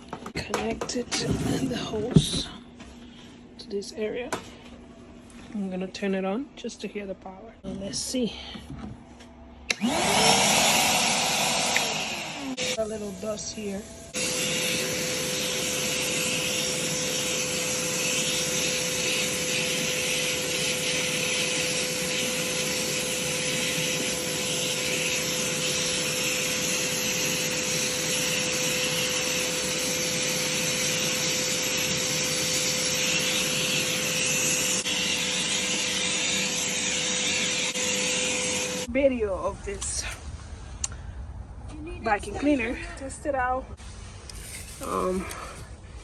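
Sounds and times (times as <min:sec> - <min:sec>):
shop vacuum running: 0:00.0 - 0:06.3, 0:08.7 - 0:39.0, 0:43.7 - 0:46.0.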